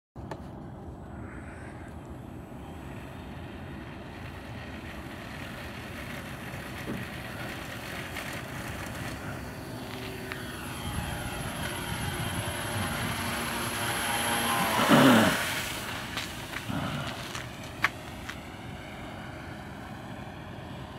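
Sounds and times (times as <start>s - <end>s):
model airplane motor buzzing: 2.3s - 20.9s.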